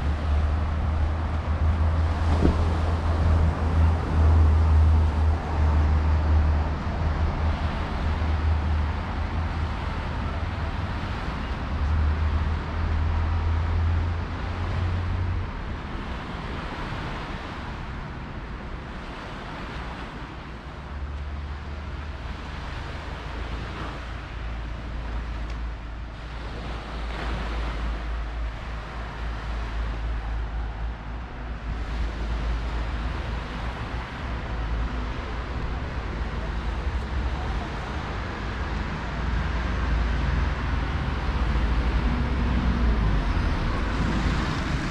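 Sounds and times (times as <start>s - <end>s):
road traffic: 0.0s - 44.9s
sea waves washing: 0.0s - 44.9s
wind rumble on microphone: 0.0s - 44.9s.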